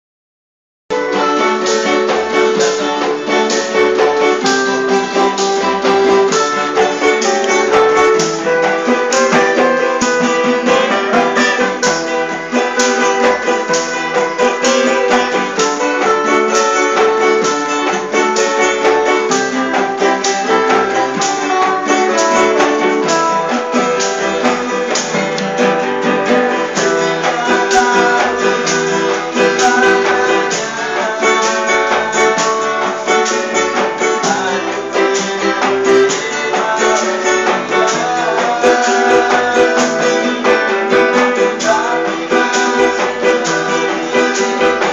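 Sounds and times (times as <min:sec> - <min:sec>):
guitar band music: 0:00.9 - 0:44.9.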